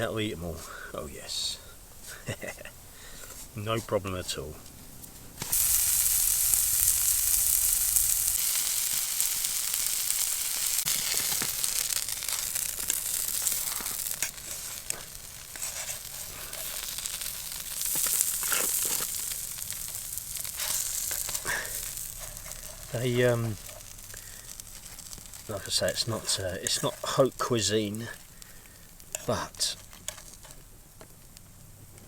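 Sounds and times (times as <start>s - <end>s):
small crackles: 0.5s - 32.0s
food sizzling in a pan: 5.2s - 32.0s.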